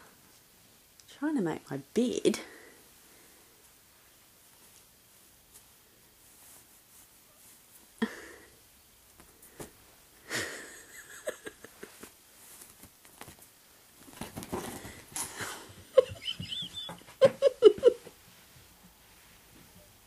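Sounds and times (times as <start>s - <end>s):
bedsheets rustling: 3.6s - 20.0s.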